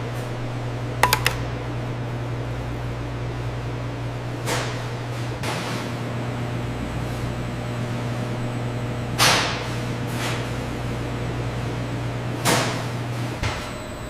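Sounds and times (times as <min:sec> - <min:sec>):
factory machine hum: 0:00.7 - 0:14.0.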